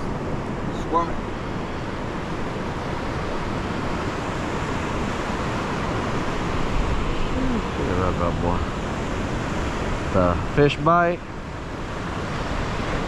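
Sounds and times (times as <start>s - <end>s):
surf rushing: 0.0s - 13.0s.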